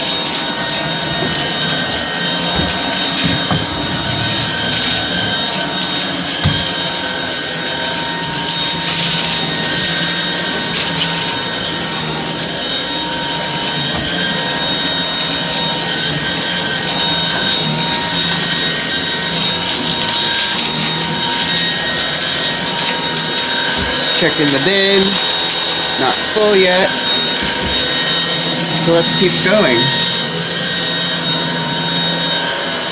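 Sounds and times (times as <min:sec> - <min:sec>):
vacuum cleaner running: 0:00.0 - 0:32.9.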